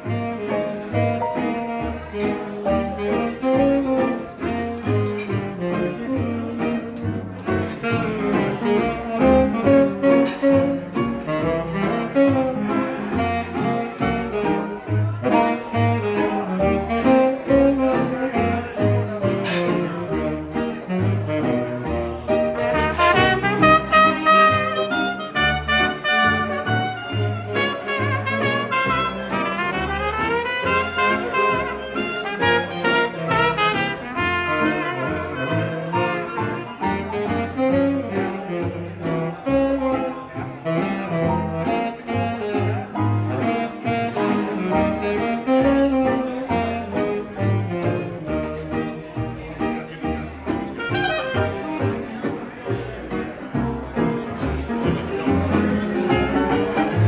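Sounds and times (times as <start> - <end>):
jazz band playing live: 0.0 - 57.0.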